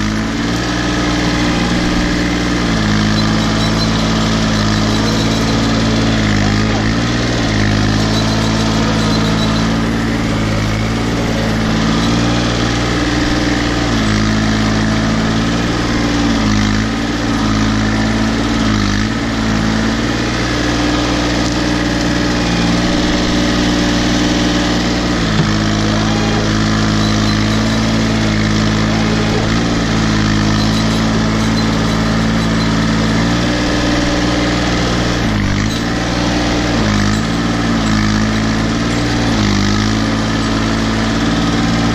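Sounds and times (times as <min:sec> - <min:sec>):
tractor diesel engine lugging: 0:00.0 - 0:41.9.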